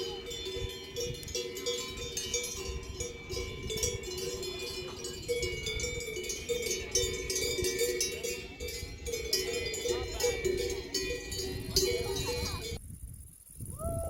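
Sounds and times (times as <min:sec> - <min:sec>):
cowbells clanking: 0:00.0 - 0:12.8.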